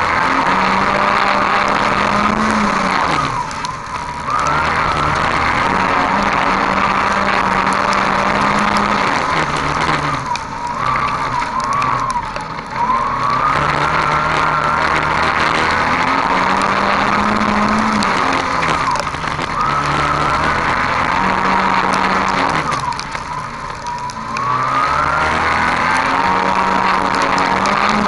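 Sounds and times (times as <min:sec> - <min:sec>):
race car engine at high revs: 0:00.0 - 0:28.0
road and wind noise: 0:00.0 - 0:28.0.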